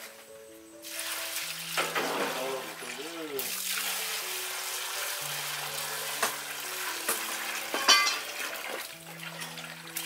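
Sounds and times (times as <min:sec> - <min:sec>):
water splashing into metal basin: 0:00.8 - 0:10.0.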